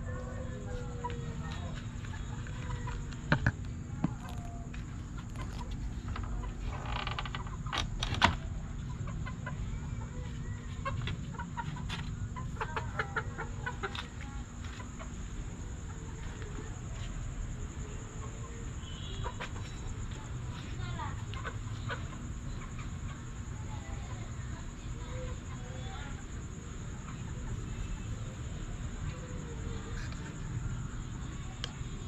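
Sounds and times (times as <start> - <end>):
chickens clucking: 0.0 - 31.6.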